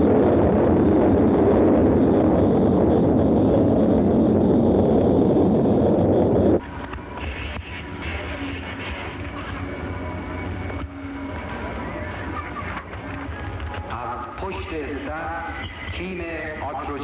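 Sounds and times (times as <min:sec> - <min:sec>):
high engine whine: 0:00.0 - 0:17.0
jet engine roar: 0:00.0 - 0:17.0.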